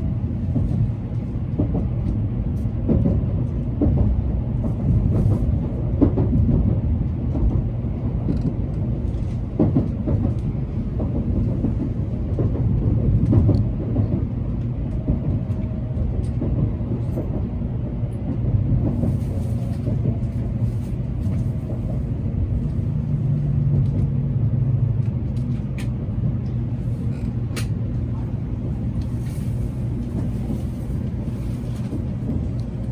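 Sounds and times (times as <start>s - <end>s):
train running low rumble: 0.0s - 32.9s.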